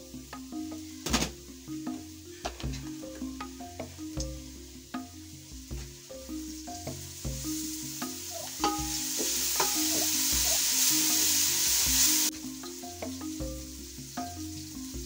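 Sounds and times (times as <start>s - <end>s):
food sizzling in hot oil: 0.1s - 15.0s.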